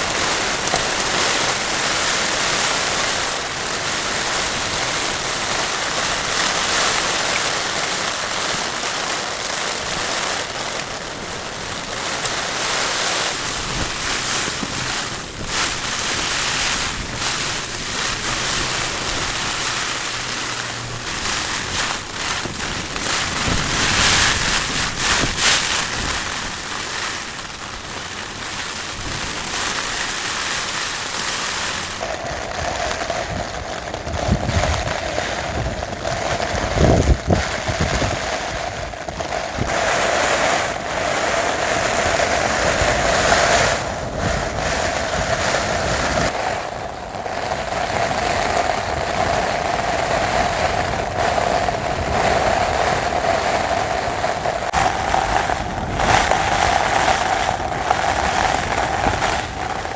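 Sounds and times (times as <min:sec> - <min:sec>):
strong gusting wind: 0:00.0 - 0:59.9
wind noise on microphone: 0:00.0 - 0:59.9.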